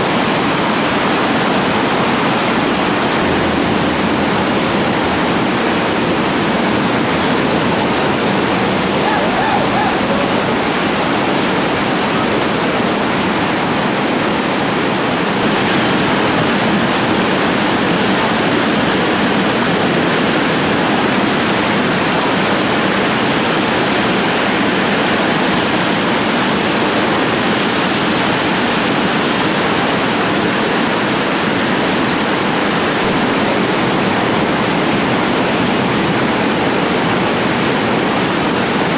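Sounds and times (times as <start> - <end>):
whitewater rapid rushing: 0.0 - 38.9.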